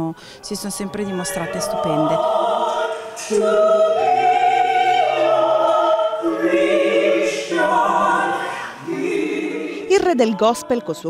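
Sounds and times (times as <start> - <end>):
gospel choir singing in harmony: 0.3 - 11.0.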